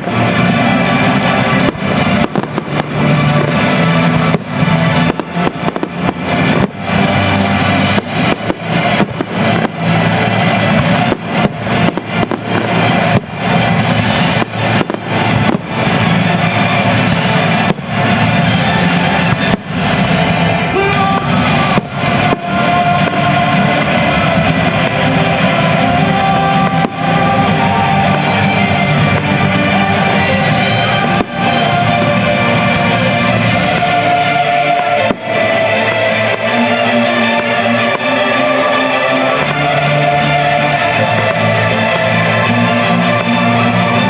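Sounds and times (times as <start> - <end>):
fireworks exploding: 0.0 - 44.0
loud music with guitar: 0.0 - 44.0.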